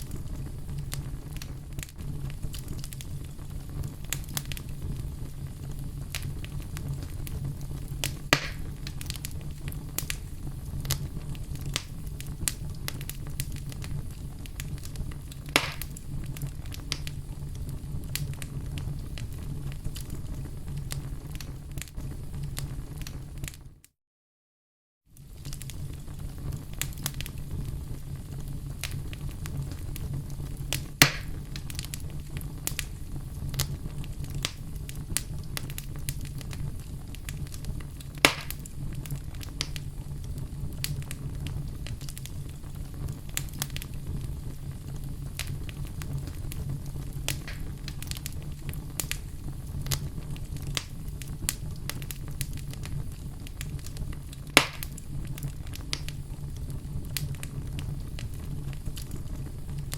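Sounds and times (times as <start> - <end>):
wood fire crackling and popping: 0.0 - 23.8, 25.1 - 59.9.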